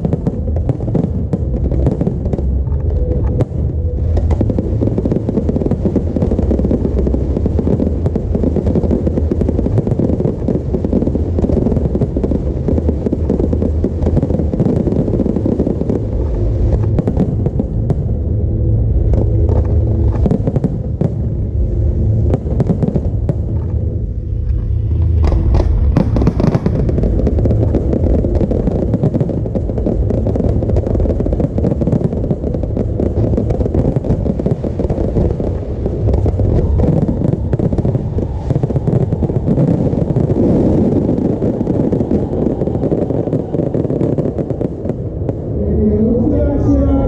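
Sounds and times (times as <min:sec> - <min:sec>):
fireworks booming: 0:00.0 - 0:47.0
fireworks crackling pops: 0:00.0 - 0:47.0.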